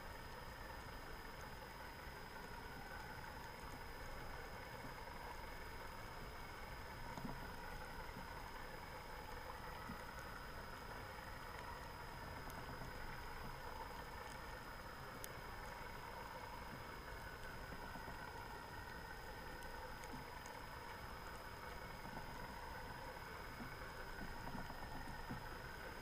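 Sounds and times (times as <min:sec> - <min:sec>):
underwater ambient noise: 0:00.0 - 0:26.0
faint clicks: 0:00.2 - 0:26.0.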